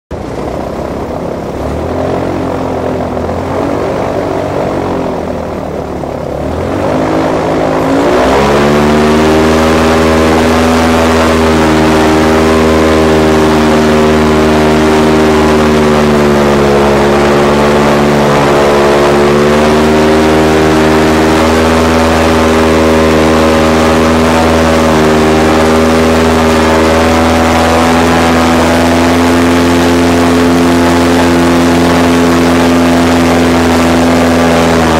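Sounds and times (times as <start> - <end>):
airboat engine and propeller droning: 0.1 - 34.9.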